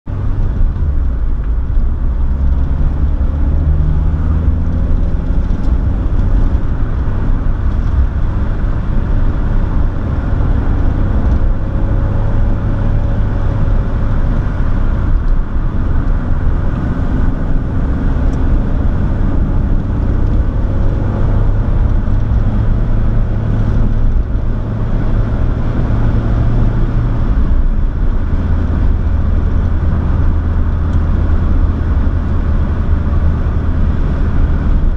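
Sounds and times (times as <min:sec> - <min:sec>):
car engine and road noise: 0:00.0 - 0:34.9.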